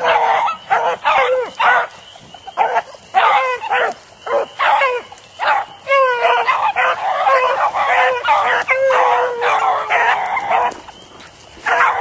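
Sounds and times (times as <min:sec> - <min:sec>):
dog baying and barking: 0:00.0 - 0:12.0.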